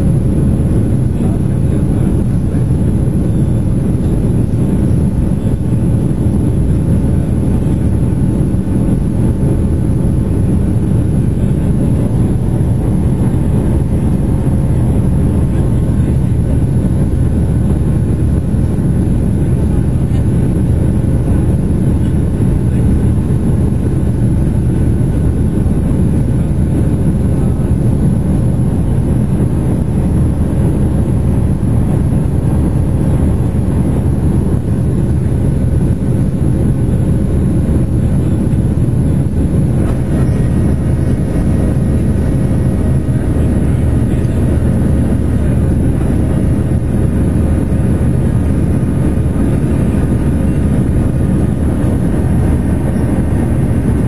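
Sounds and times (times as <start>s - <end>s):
aircraft engine and airflow roar: 0.0s - 54.0s
faint steady hum: 0.0s - 54.0s.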